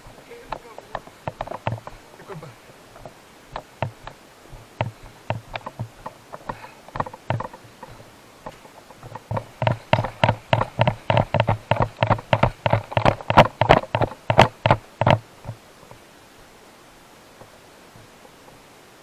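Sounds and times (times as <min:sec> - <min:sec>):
footsteps on dry ground: 0:00.0 - 0:16.0.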